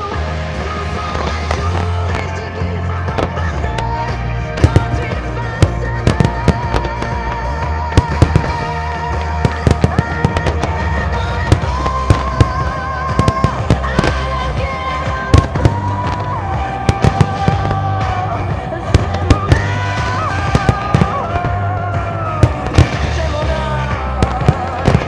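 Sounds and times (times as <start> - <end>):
music with held notes and bass: 0.0 - 25.0
fireworks bangs: 0.8 - 25.0.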